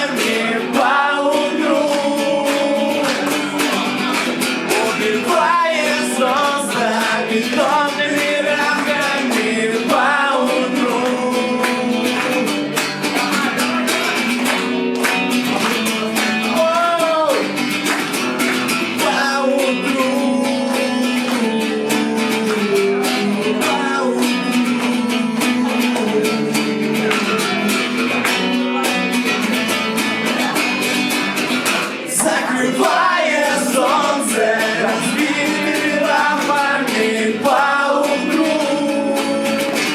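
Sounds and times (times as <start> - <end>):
strummed guitar: 0.0 - 39.9
live rock band playing: 1.7 - 39.9.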